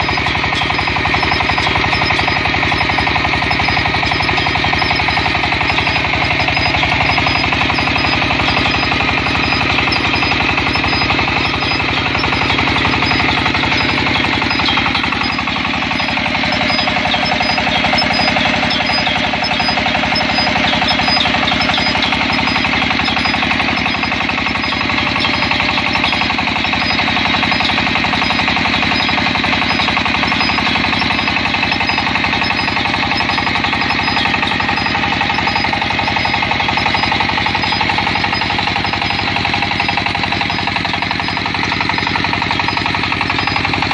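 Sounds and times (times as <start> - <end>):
drilling rig hammering: 0.0 - 43.9.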